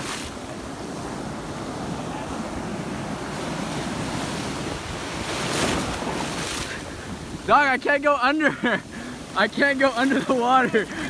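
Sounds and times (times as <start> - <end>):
ocean surf breaking: 0.0 - 11.0
water splashing near microphone: 0.0 - 11.0.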